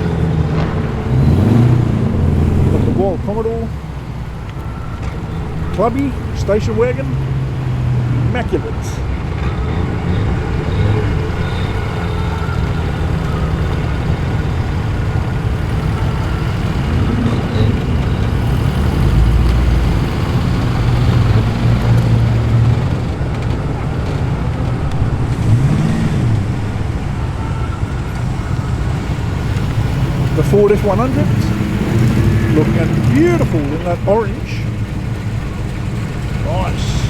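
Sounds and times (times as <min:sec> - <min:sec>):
car engine revving: 0:00.0 - 0:37.0
cars passing at low speed: 0:00.0 - 0:37.0.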